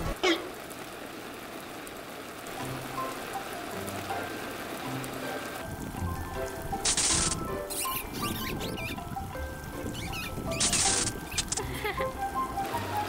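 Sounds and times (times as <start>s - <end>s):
sprinkler water jets spraying: 0.0s - 13.0s
soft background music: 2.4s - 13.0s.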